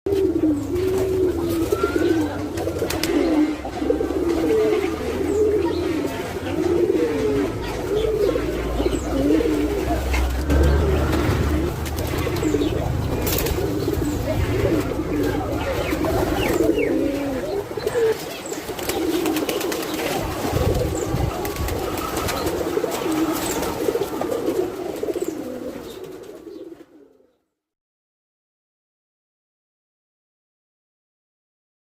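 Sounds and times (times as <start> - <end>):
pigeons cooing: 0.1 - 27.4.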